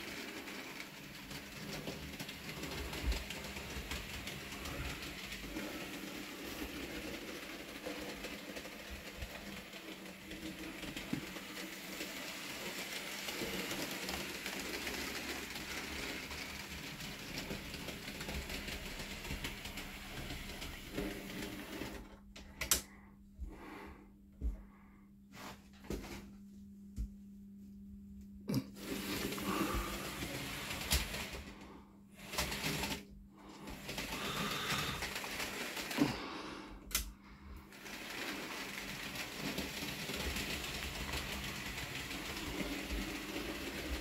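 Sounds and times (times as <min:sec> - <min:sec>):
model train whirring: 0:00.0 - 0:22.8, 0:28.8 - 0:31.6, 0:32.2 - 0:36.2, 0:36.8 - 0:44.0
wheels clicking on rails: 0:00.0 - 0:22.9, 0:28.8 - 0:31.6, 0:32.2 - 0:36.3, 0:36.9 - 0:44.0.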